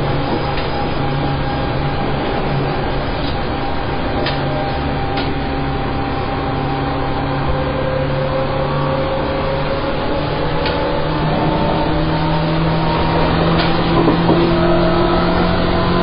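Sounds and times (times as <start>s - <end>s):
traction motor hum: 0.0s - 16.0s
train wheels rumbling on rail: 0.0s - 16.0s.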